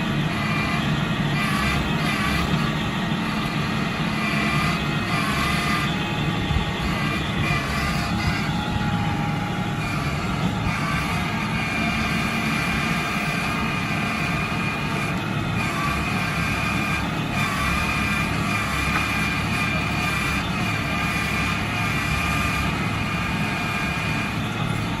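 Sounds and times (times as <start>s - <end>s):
high whine: 0.0s - 25.0s
tractor diesel engine running: 0.0s - 25.0s.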